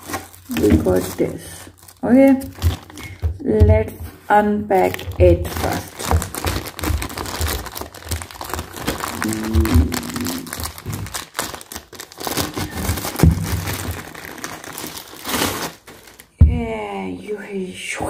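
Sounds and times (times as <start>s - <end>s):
plastic bags crinkling: 0.0s - 16.4s.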